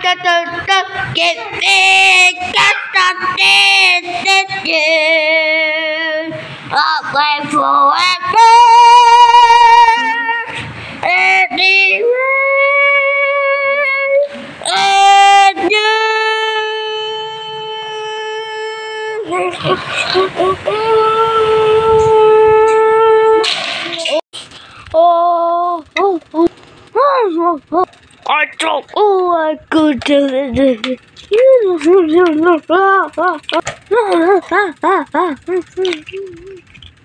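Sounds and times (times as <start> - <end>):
high voice singing: 0.0 - 24.2, 24.9 - 37.0.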